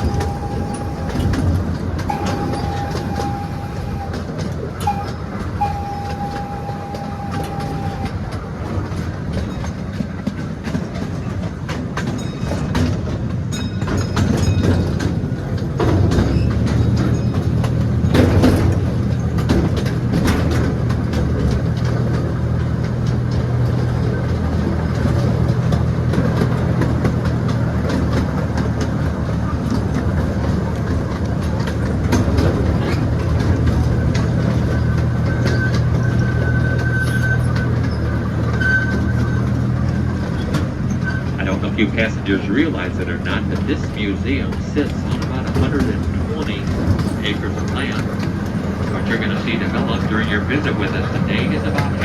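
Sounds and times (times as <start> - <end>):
miniature train engine hum: 0.0 - 52.0
train clatter: 0.0 - 52.0
wheels clicking over rail joints: 0.0 - 52.0.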